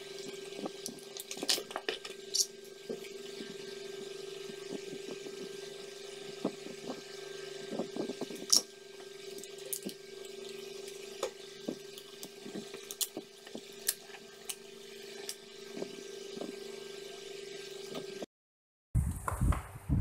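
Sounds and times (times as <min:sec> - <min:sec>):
steady hum: 0:00.0 - 0:18.3.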